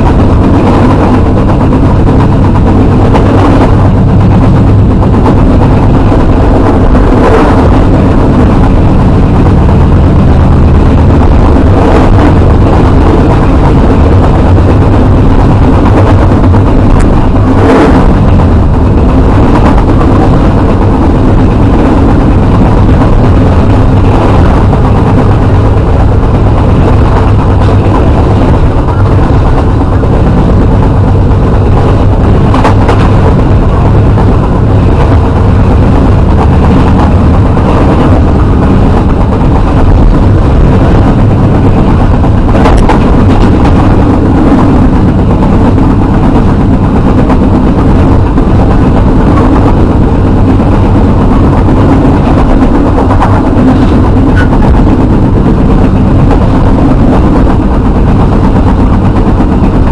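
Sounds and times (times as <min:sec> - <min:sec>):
low hum: 0:00.0 - 0:59.9
train rumbling inside carriage: 0:00.0 - 0:59.9.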